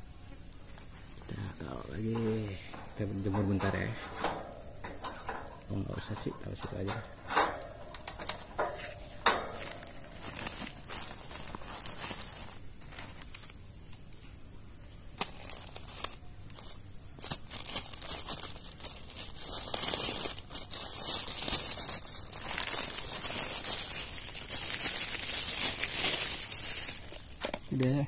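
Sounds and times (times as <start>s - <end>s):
crinkling rustling handling noise: 0.3s - 14.1s, 15.1s - 28.0s.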